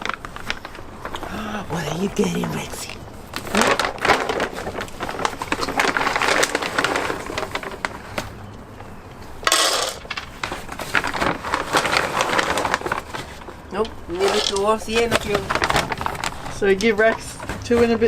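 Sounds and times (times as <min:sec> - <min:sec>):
dry kibble rattling: 0:00.0 - 0:08.4, 0:09.4 - 0:18.0
plastic bag crinkling: 0:00.0 - 0:08.4, 0:09.5 - 0:17.6.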